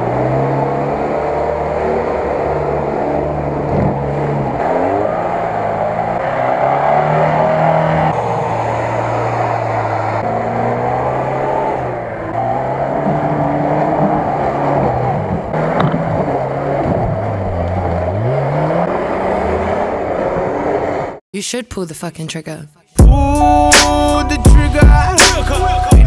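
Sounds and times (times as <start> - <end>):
off-road vehicle engines under load: 0.0 - 21.2.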